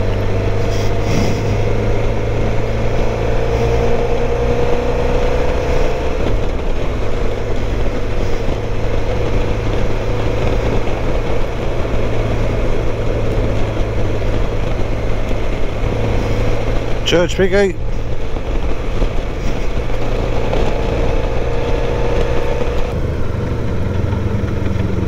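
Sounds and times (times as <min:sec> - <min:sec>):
motorcycle engine running: 0:00.0 - 0:25.0
road noise: 0:00.0 - 0:25.0
wind noise: 0:00.0 - 0:25.0.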